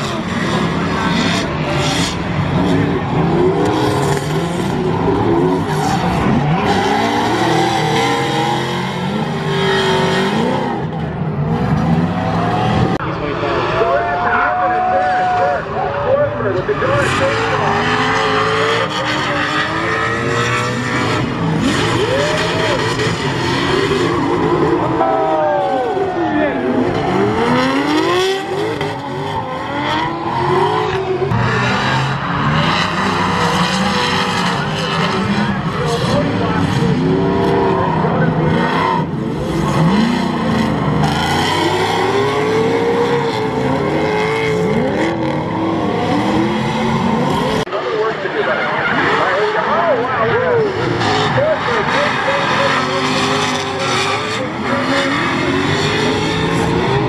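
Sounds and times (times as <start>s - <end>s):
car engines revving: 0.0s - 57.0s
tires hissing and squealing: 0.0s - 57.0s
tyres rushing: 0.0s - 57.0s.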